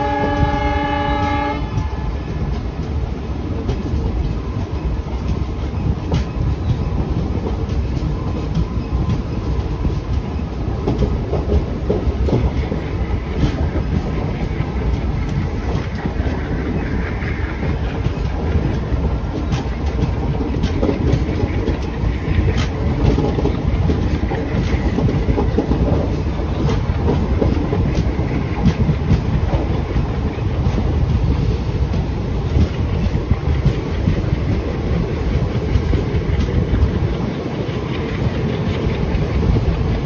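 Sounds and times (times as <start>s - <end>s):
train rumble: 0.0s - 40.0s
train wheels clicking over rail joints: 0.0s - 40.0s.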